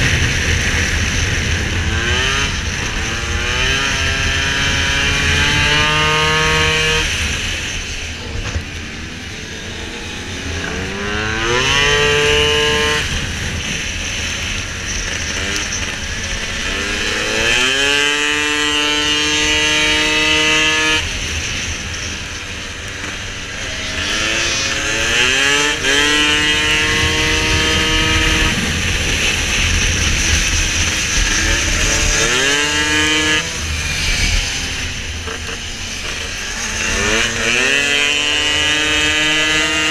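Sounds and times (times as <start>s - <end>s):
scooter engine at full throttle: 0.0s - 39.9s.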